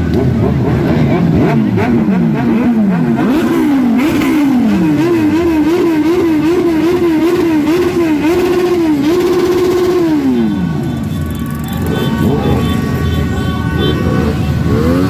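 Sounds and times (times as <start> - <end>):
motorcycle engine revving: 0.0 - 15.0
other motorcycles revving: 0.0 - 15.0.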